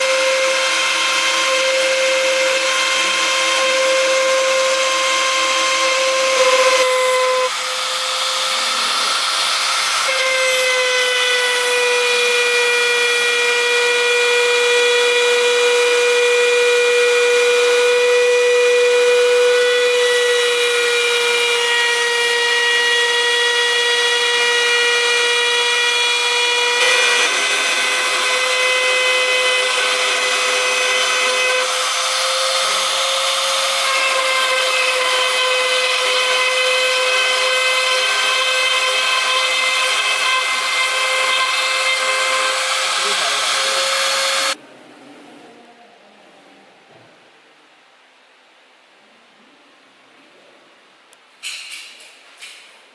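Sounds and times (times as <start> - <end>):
router spindle high whine: 0.0 - 44.6.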